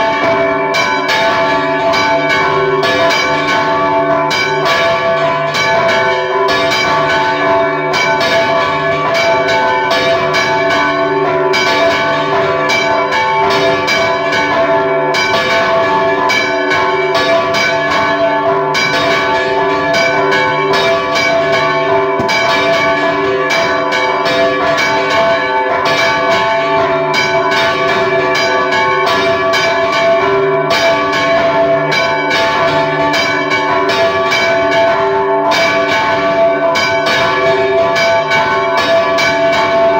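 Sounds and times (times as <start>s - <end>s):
church bells ringing rapidly: 0.0s - 39.9s.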